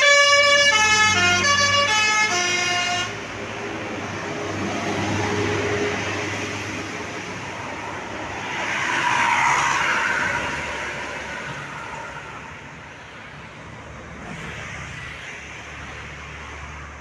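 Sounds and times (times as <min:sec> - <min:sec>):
road vehicle passing by: 0:00.0 - 0:17.0.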